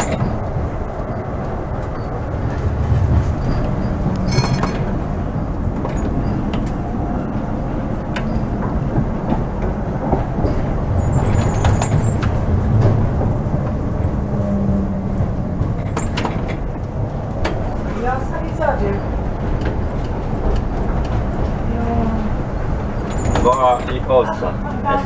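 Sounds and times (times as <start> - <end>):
tram wheels and motors rumbling: 0.0 - 25.0.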